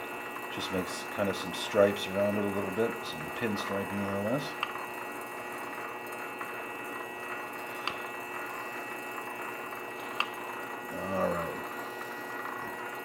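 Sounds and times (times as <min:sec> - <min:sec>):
metal lathe running: 0:00.0 - 0:13.0.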